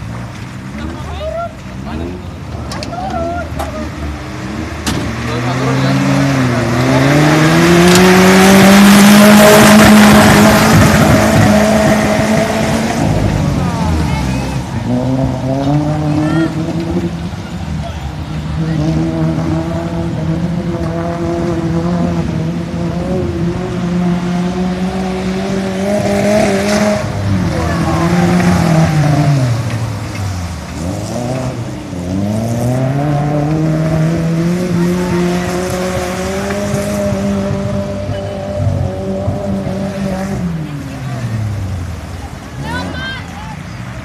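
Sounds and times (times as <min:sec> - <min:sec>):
off-road vehicle engine: 0:00.0 - 0:44.0.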